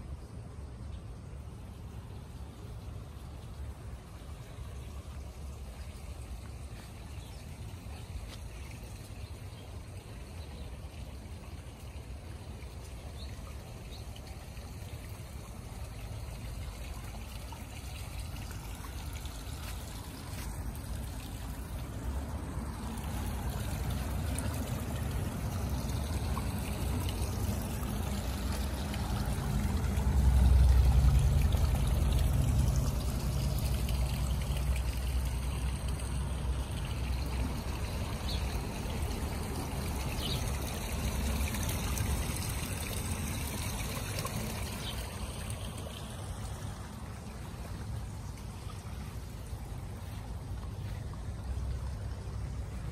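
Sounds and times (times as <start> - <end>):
water trickling in pond: 0.0 - 52.9.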